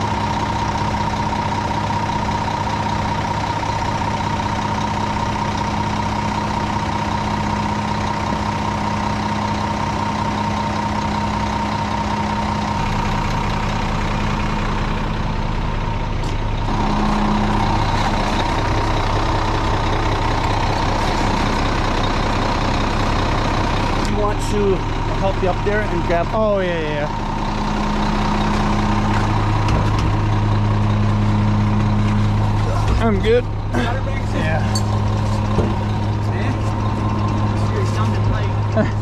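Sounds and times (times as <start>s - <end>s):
heavy truck diesel engine running: 0.0s - 39.0s.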